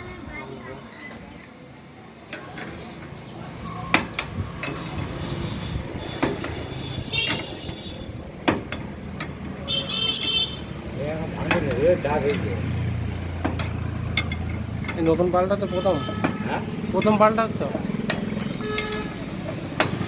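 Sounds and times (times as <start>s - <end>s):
metal tools knocking on axle parts: 2.2s - 20.0s.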